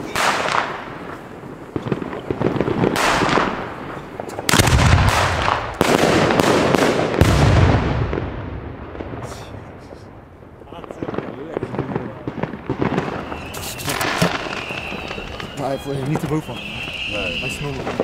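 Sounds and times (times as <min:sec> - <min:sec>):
firework shells booming: 0:00.0 - 0:18.0.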